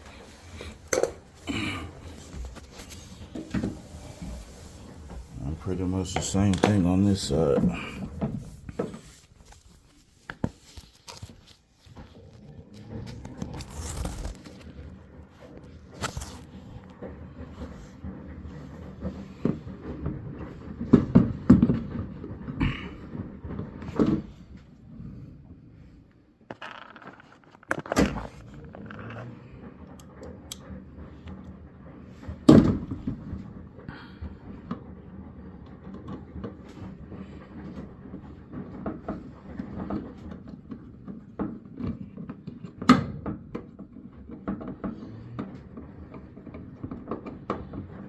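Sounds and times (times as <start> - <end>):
metal and plastic scraping: 0.0 - 24.7, 26.5 - 48.0.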